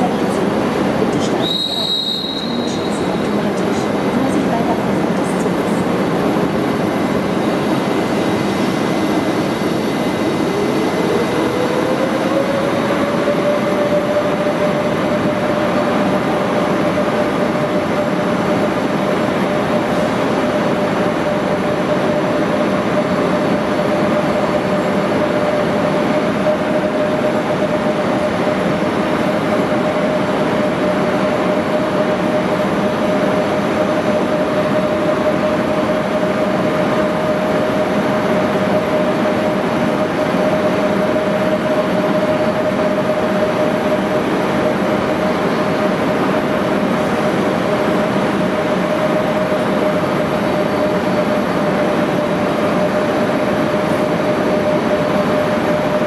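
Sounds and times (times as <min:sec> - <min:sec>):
cooling blowers humming: 0:00.0 - 0:56.0
fan tone rising in pitch: 0:00.0 - 0:56.0.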